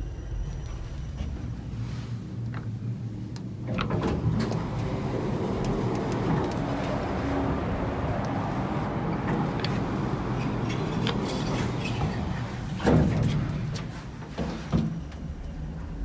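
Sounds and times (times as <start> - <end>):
elevator door mechanical rumble: 0.0 - 16.0.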